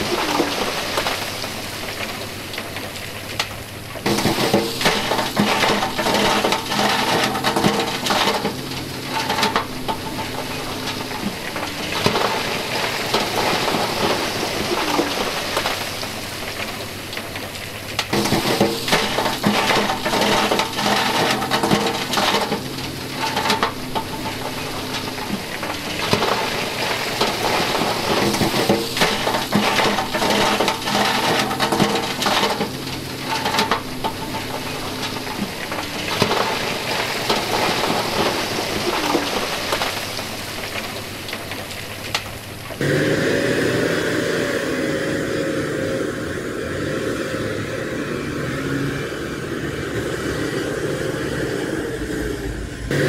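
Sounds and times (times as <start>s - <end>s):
rocks and gravel clattering down: 0.0s - 44.4s
diesel truck engine humming: 0.0s - 53.0s.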